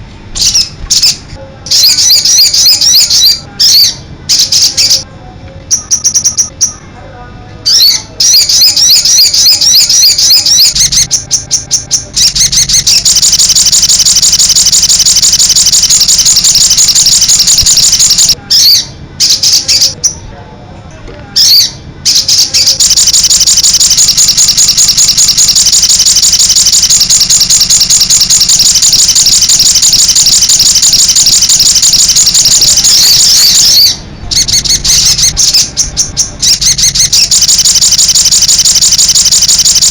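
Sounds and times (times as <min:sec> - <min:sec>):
bird chattering song: 0:00.4 - 0:05.0, 0:05.7 - 0:06.9, 0:07.7 - 0:20.2, 0:21.4 - 0:39.9.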